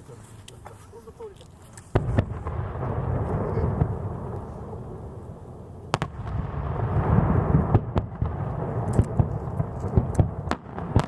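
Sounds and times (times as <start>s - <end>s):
low rolling rumble and crackle: 0.0s - 11.0s.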